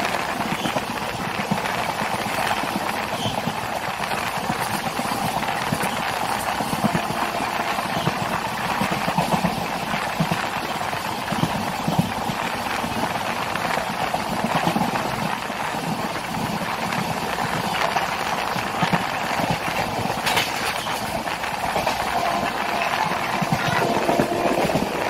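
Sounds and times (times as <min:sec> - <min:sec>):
train coach rumble and rattle: 0:00.0 - 0:25.0.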